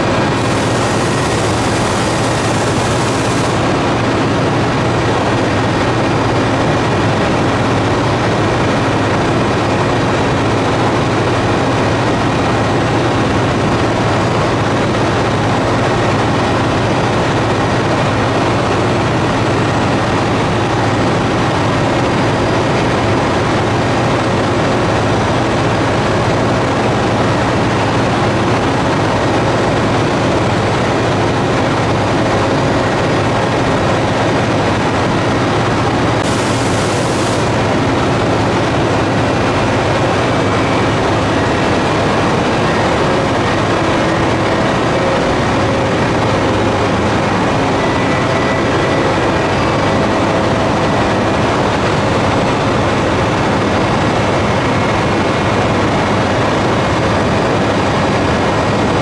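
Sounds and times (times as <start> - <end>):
engine running: 0.0 - 59.0
rail-grinding train grinding: 0.0 - 59.0.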